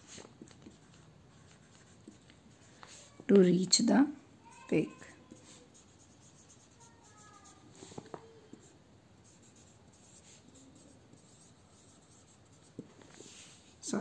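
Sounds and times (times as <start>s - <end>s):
marker pen scratching on paper: 0.0s - 3.2s, 4.6s - 13.8s.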